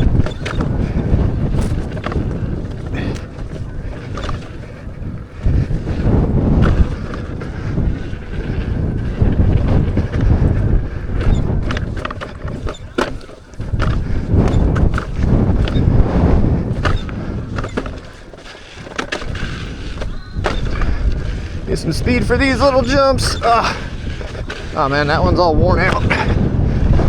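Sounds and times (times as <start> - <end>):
clicks and knocks from rough ground: 0.0 - 27.0
wind buffeting microphone: 0.0 - 27.0.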